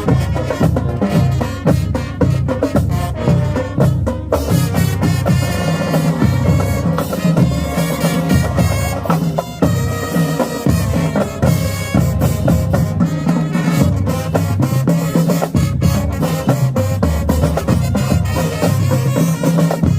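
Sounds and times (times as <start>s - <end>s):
brass section chords: 0.0s - 19.9s
drumline drumming: 0.0s - 19.9s
marching band playing: 0.0s - 19.9s.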